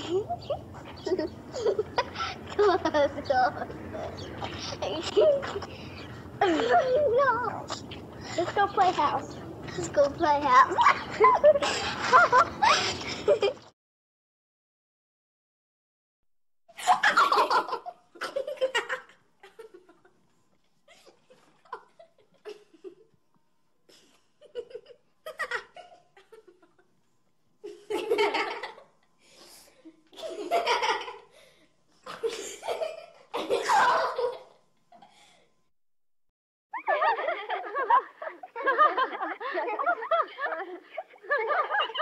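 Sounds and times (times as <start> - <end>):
children laughing: 0.0 - 13.7, 16.8 - 20.3, 20.9 - 23.2, 23.9 - 27.0, 27.6 - 31.4, 32.0 - 34.6, 36.8 - 42.0.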